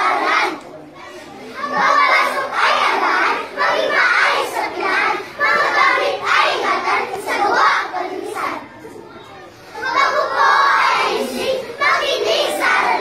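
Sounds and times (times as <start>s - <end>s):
children chanting in unison: 0.0s - 13.0s.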